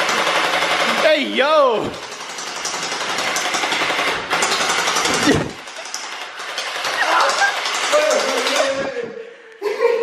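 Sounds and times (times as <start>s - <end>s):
gel blaster firing rapidly: 0.0s - 8.9s.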